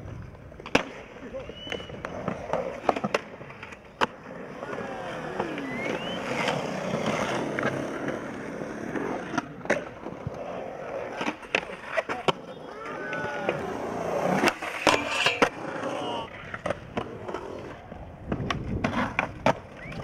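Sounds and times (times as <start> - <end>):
skateboard wheels rolling on concrete: 0.0 - 20.0
skateboard clacking on concrete: 0.1 - 20.0.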